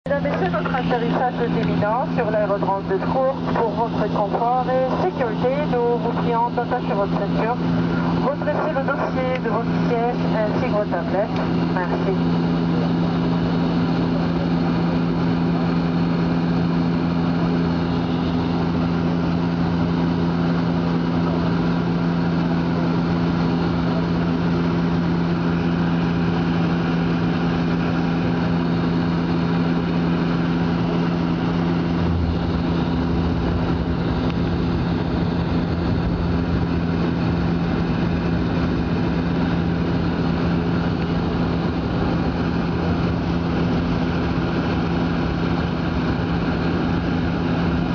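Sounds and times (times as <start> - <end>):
airliner engine drone: 0.0 - 47.9
deep rumble: 0.1 - 47.9.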